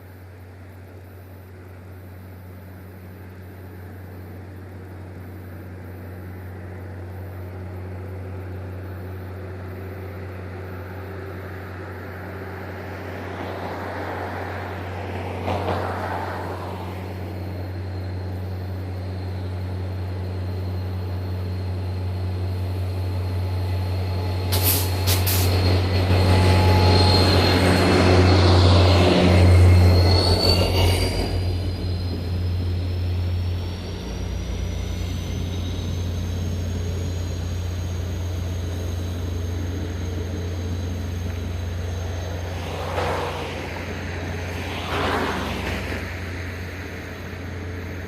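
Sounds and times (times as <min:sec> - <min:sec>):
locomotive engine drone: 0:00.0 - 0:48.0
high wheel squeal: 0:07.2 - 0:48.0.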